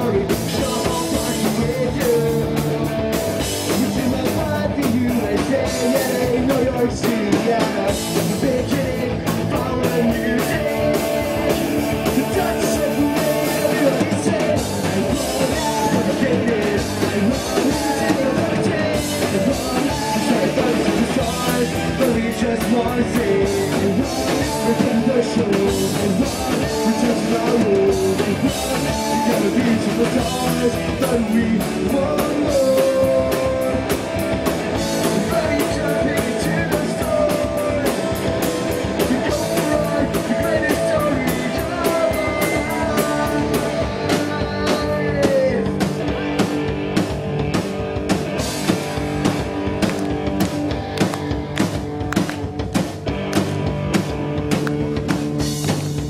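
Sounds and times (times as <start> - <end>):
person singing: 0.0 - 46.0
distorted electric guitars: 0.0 - 56.0
drum kit: 0.0 - 56.0.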